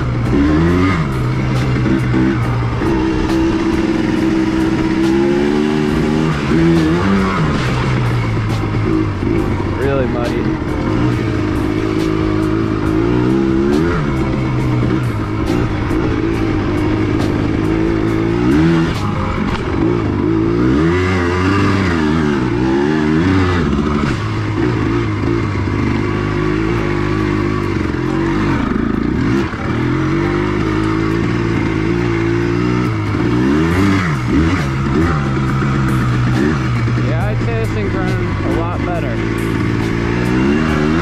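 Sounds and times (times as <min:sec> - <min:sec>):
two-stroke engine revving: 0:00.0 - 0:41.0.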